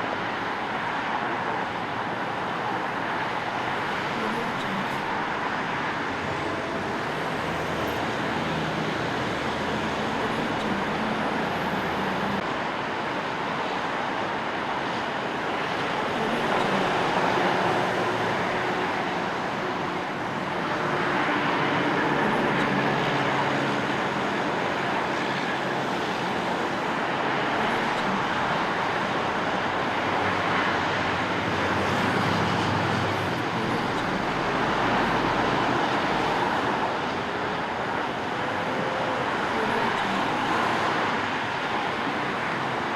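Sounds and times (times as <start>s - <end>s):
city street traffic: 0.0s - 42.9s.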